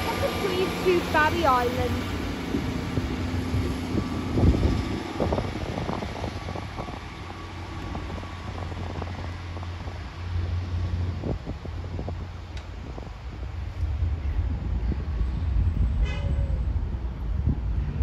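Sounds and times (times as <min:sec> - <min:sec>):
diesel train engines droning: 0:00.0 - 0:18.0.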